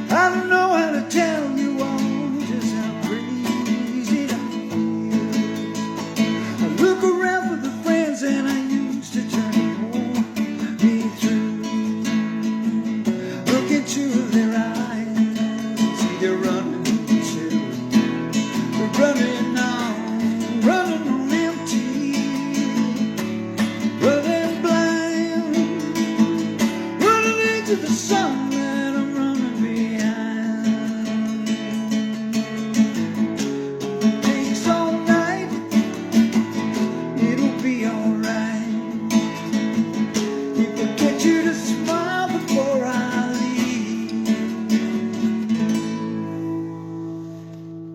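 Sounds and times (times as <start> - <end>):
sliding guitar melody: 0.0 - 47.9
strummed acoustic guitar chords: 0.0 - 47.9.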